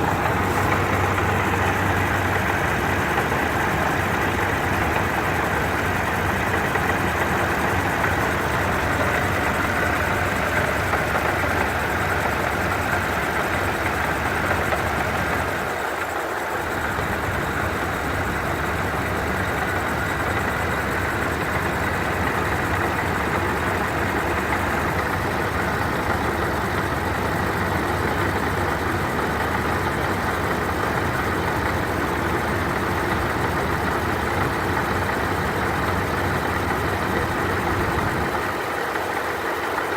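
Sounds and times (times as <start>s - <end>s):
car engine idling: 0.0s - 39.9s
supercharger grinding rattle: 0.0s - 39.9s.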